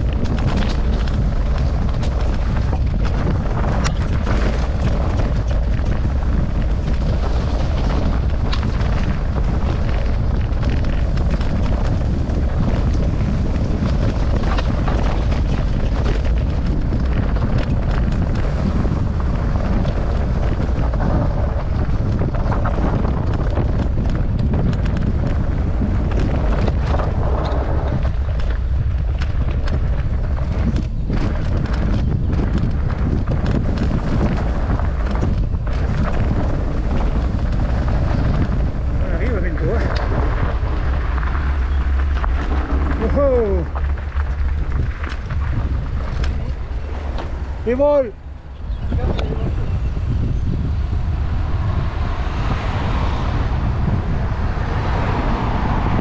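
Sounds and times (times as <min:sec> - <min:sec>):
bike rattling over rough ground: 0:00.0 - 0:56.0
wind buffeting microphone: 0:00.0 - 0:56.0.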